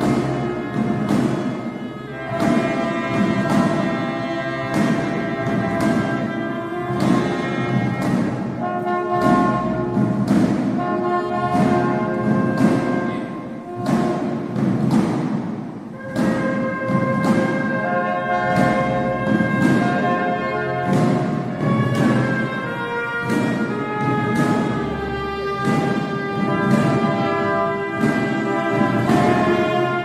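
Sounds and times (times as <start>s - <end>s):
brass playing held chords: 0.0s - 14.9s, 15.8s - 30.0s
timpani strokes: 0.0s - 30.0s.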